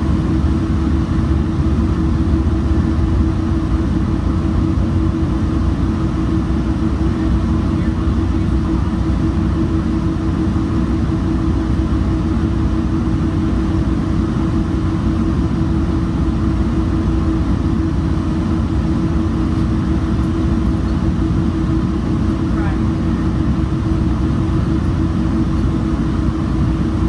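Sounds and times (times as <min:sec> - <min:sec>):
constant hum: 0:00.0 - 0:27.0
train low rumble: 0:00.0 - 0:27.0.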